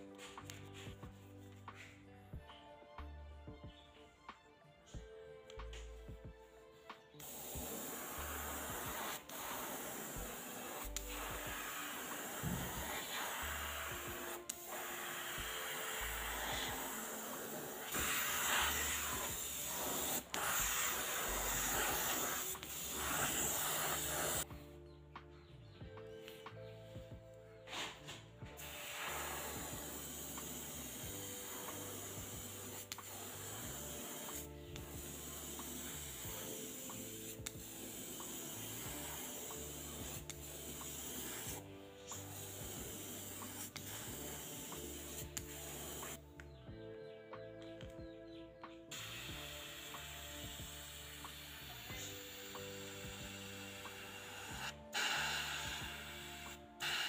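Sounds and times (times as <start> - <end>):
airbrush spraying paint: 0.0 - 2.0, 7.1 - 24.5, 27.7 - 46.2, 48.9 - 57.0
background music: 0.0 - 57.0.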